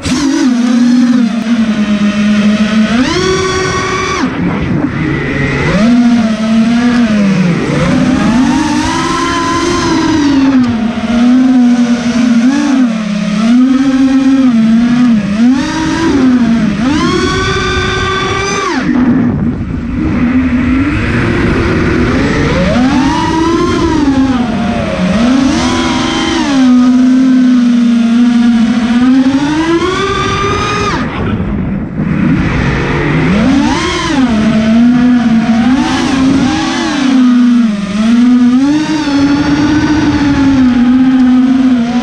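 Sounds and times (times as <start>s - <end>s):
drone motors whining: 0.0s - 42.0s.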